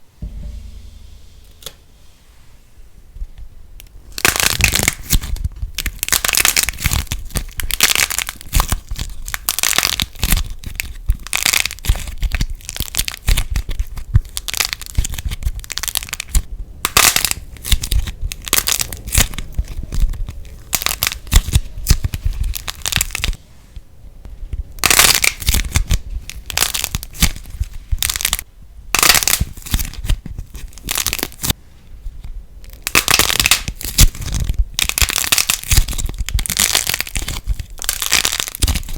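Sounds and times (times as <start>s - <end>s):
plasticine crackling and popping: 3.8s - 23.4s, 24.5s - 38.9s.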